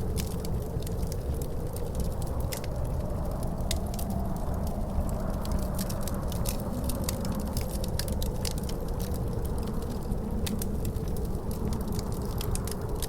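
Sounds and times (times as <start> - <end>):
wind rumbling with faint howl: 0.0 - 13.0
wood fire crackling: 0.0 - 13.0.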